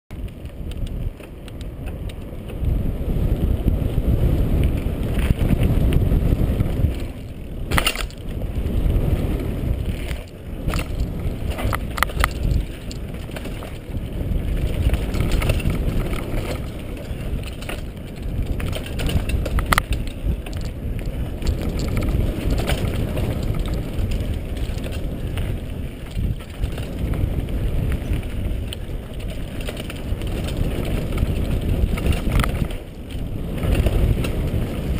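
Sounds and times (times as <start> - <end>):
bike rattling over bumps: 0.1 - 34.9
tyre and wind rush: 0.1 - 34.9.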